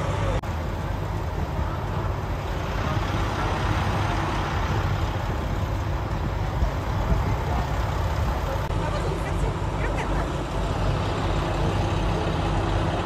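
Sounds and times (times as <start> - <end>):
low engine rumble: 0.0 - 13.0
road noise: 0.0 - 13.0.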